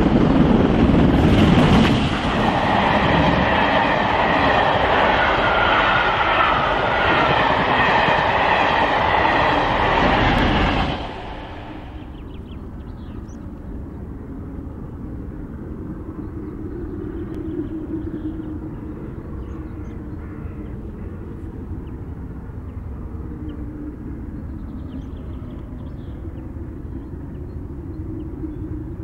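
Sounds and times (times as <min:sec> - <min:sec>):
distant train rumble: 0:00.0 - 0:29.0.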